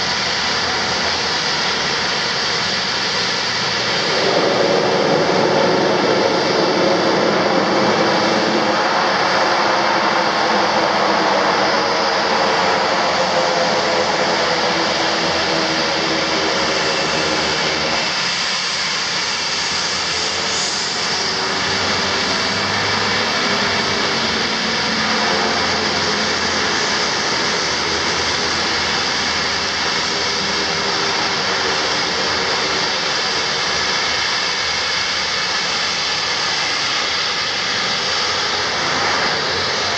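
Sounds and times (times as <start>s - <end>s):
propeller hum: 0.0s - 39.9s
turboprop engine whine: 0.0s - 39.9s.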